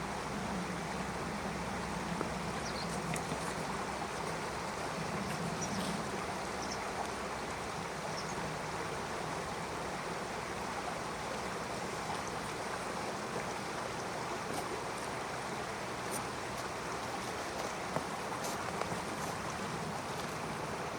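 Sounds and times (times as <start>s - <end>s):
stream water flowing: 0.0s - 20.9s.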